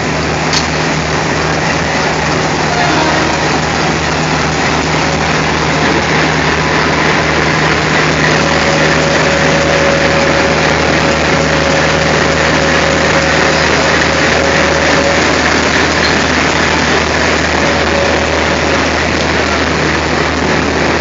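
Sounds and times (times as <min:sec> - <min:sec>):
diesel locomotive engine idling: 0:00.0 - 0:21.0
thin steady whine: 0:00.0 - 0:21.0.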